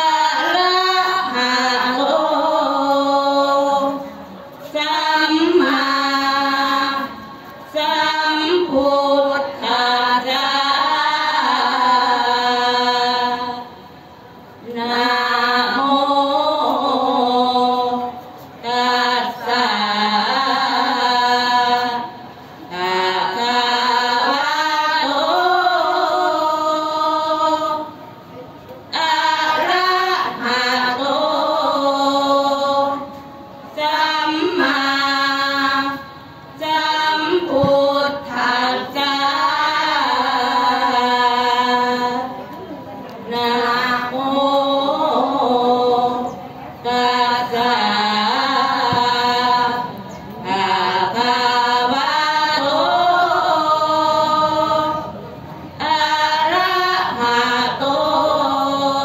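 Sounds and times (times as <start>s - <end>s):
women chanting together: 0.0s - 13.9s, 14.6s - 28.0s, 28.9s - 42.5s, 43.2s - 59.0s.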